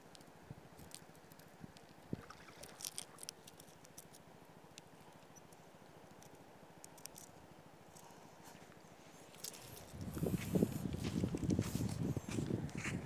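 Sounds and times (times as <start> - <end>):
low steady hiss: 0.0 - 12.7.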